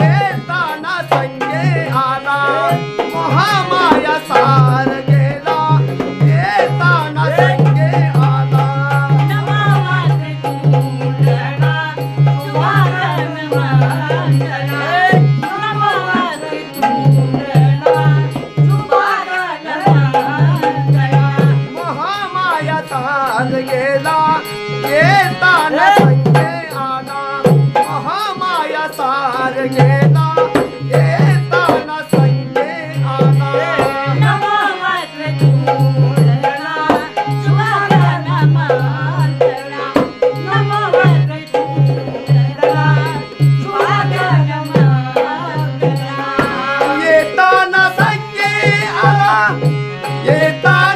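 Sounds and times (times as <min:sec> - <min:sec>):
hand drum beat: 0:00.0 - 0:19.2, 0:23.4 - 0:50.9
harmonium: 0:00.0 - 0:50.9
male and female voices singing: 0:00.0 - 0:50.9.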